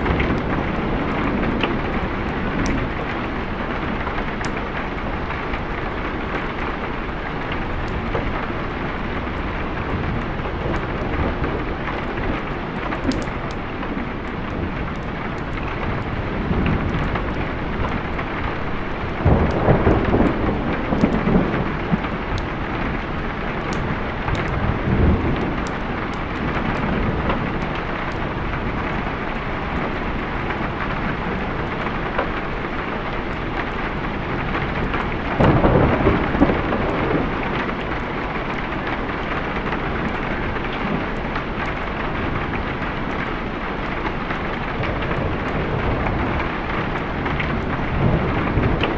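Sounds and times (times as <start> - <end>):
rolling thunder: 0.0 - 48.9
steady rain: 0.0 - 48.9.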